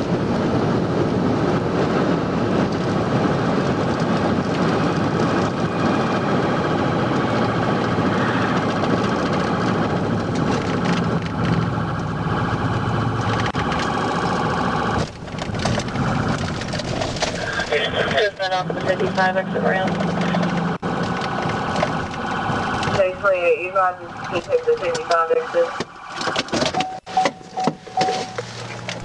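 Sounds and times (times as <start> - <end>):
car engine at speed: 0.0 - 29.0
road and wind noise: 0.0 - 29.0.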